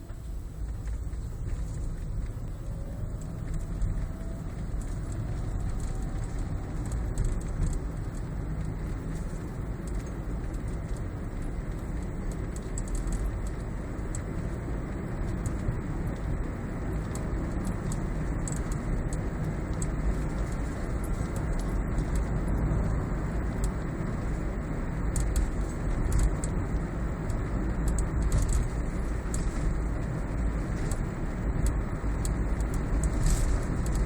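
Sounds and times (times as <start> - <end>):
car road and drivetrain rumble: 0.0 - 34.0.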